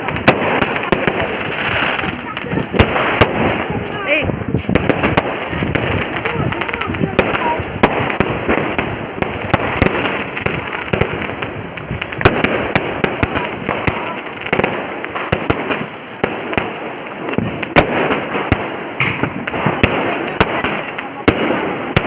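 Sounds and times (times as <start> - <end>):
loud firecracker cracks: 0.0 - 4.0, 4.6 - 22.0
firecrackers crackling: 0.0 - 22.0.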